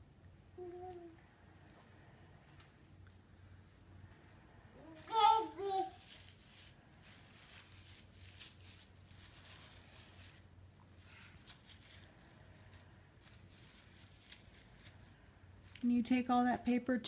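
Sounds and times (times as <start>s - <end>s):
low steady hum: 0.0s - 17.0s
soft rustles: 1.6s - 15.9s.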